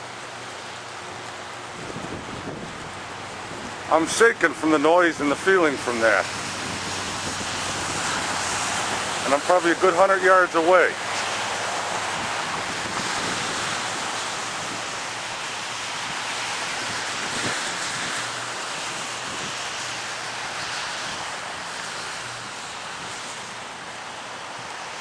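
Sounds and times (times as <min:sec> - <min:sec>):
power line arcing hiss: 0:00.0 - 0:25.0.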